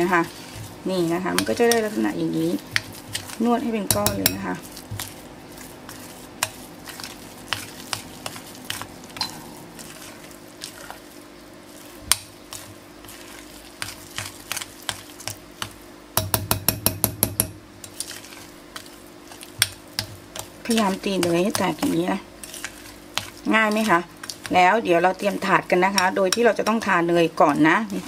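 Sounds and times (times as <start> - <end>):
fork mashing cookie dough: 0.0 - 28.0.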